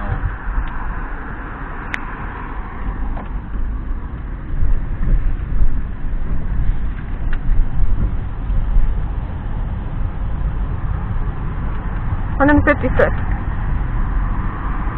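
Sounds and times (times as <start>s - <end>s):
car engine and tyres rumbling: 0.0s - 14.9s.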